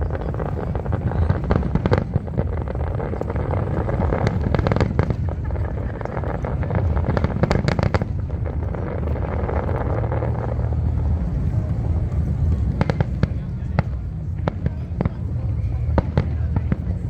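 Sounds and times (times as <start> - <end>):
fireworks crackling pops: 0.0 - 17.0
low rumble: 0.0 - 17.0.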